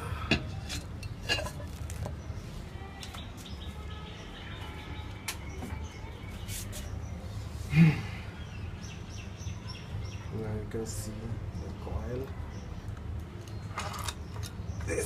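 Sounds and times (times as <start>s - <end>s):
birds chirping: 1.0s - 15.0s.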